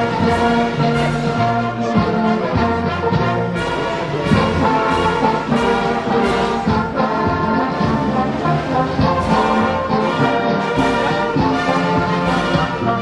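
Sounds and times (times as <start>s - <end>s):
brass music: 0.0s - 13.0s.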